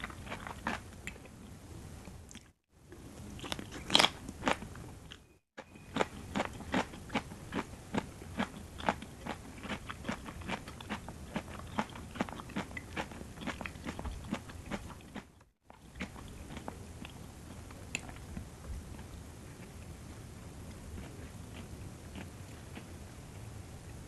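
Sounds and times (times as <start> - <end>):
chewing crunchy food: 0.0 - 1.6, 2.3 - 23.0.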